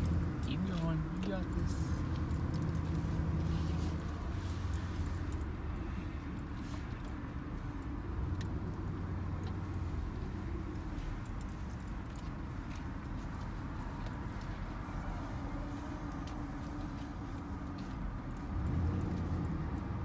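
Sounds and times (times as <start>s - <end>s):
engine and road hum: 0.0s - 20.0s.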